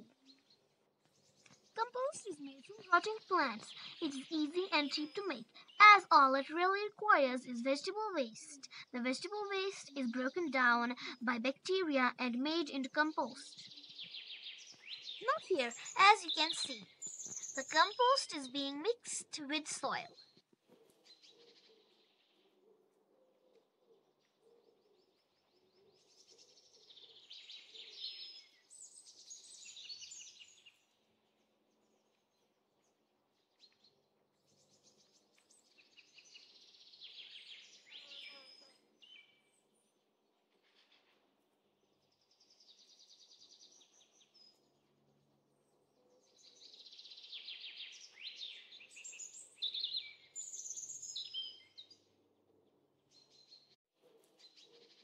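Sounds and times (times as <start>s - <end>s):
songbird singing: 0.0s - 22.6s, 23.5s - 40.0s, 41.8s - 44.9s, 45.6s - 55.0s.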